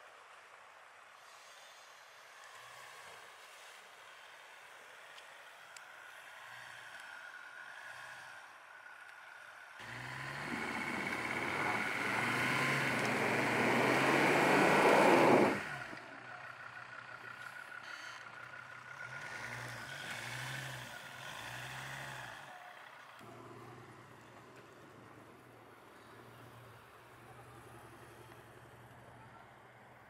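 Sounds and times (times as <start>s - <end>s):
off-road vehicle engine: 0.0s - 30.0s.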